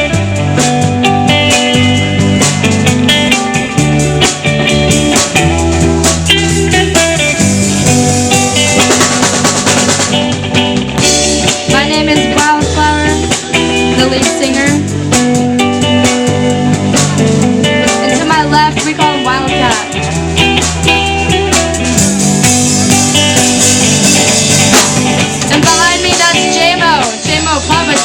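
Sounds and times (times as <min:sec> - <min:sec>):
bass: 0:00.0 - 0:28.0
drum kit: 0:00.0 - 0:28.0
guitar: 0:00.0 - 0:28.0.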